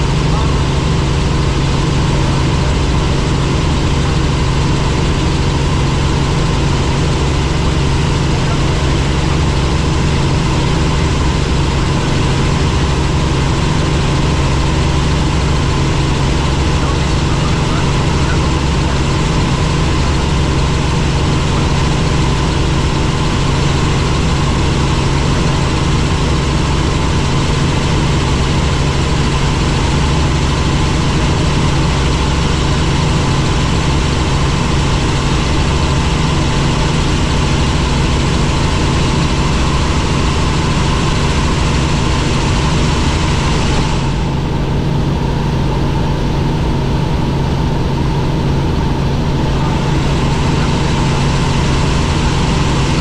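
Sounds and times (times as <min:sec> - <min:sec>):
helicopter engine and rotors drone: 0:00.0 - 0:53.0.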